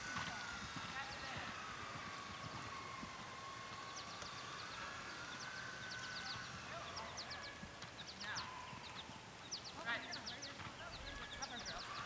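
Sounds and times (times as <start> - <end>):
birds chirping: 0.0 - 12.0
faint steady whine: 0.0 - 12.0.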